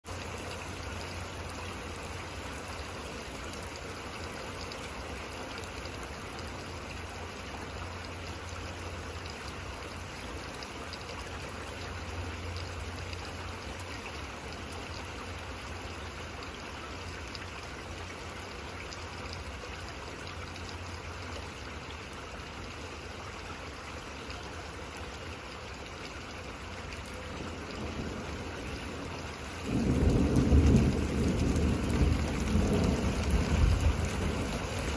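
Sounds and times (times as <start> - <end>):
steady rain falling: 0.0 - 34.9
trickling water: 0.0 - 34.9.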